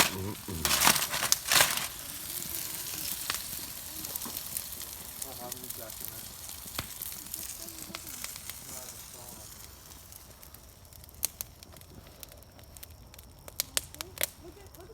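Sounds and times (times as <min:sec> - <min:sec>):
burning wood crackling: 0:00.0 - 0:14.9
chicken sizzling: 0:00.0 - 0:14.9.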